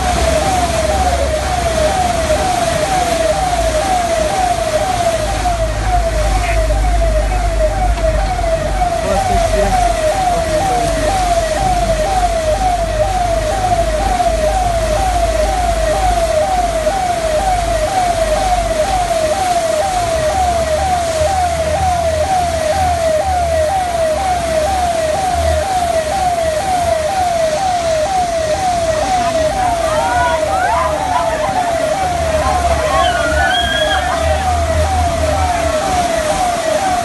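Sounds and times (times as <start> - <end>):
electronic siren wailing: 0.0 - 37.0.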